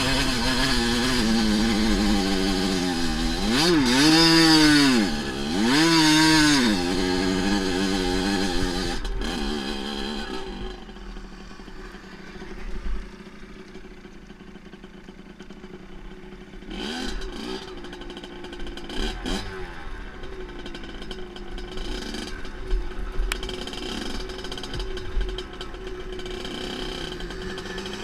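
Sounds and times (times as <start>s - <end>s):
dirt bike engine revving: 0.0s - 14.1s, 16.0s - 28.0s.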